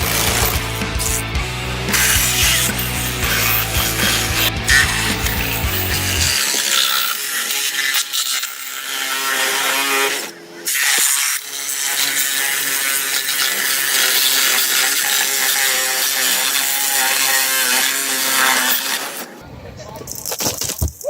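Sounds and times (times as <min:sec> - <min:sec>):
reciprocating saw cutting sheet metal: 0:00.0 - 0:19.4.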